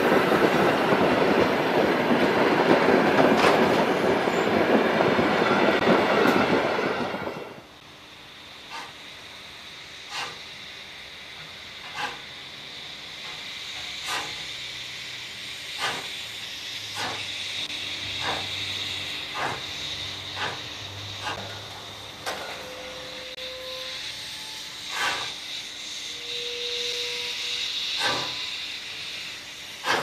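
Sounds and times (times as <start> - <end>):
steady steam hiss: 0.0 - 30.0
steam locomotive exhaust chuffs: 0.0 - 30.0.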